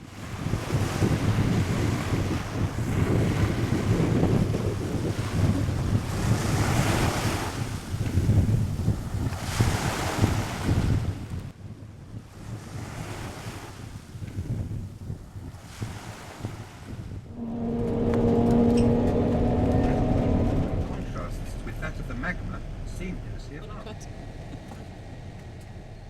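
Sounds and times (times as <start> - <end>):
ocean surf: 0.0 - 11.0, 15.6 - 26.0
waves washing in: 0.0 - 11.3, 12.3 - 14.2, 15.2 - 26.0
wind buffeting microphone: 0.0 - 26.0.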